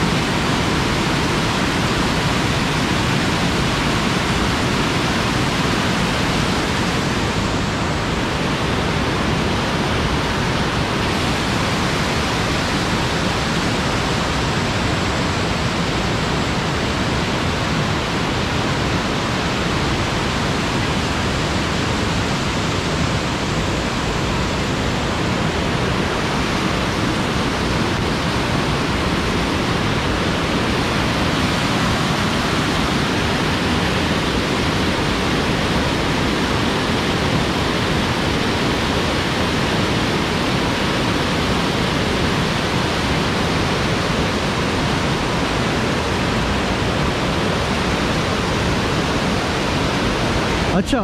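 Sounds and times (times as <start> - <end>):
fast-flowing stream rushing: 0.0 - 51.0.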